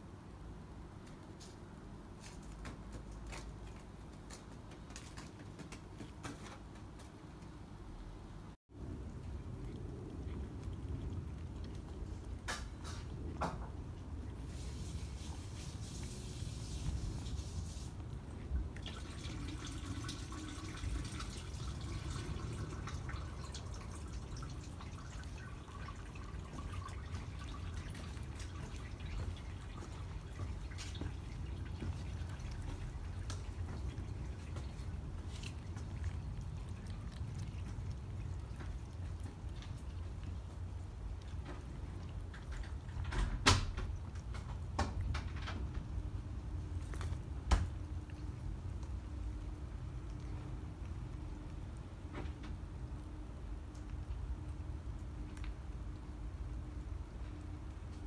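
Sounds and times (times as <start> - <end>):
low steady background rumble: 0.0 - 58.0
kittens lapping liquid: 0.1 - 7.8, 8.7 - 58.0.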